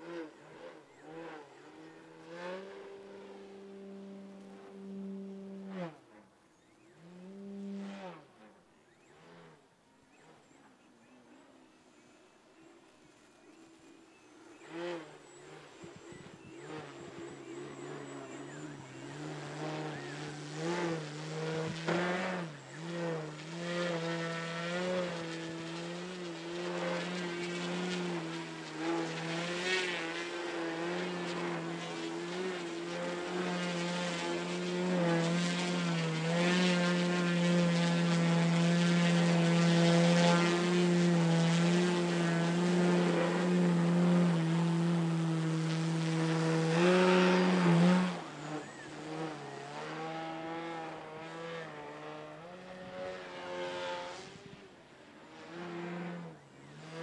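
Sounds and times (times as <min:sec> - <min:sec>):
model plane motor buzzing: 0:00.0 - 0:57.0.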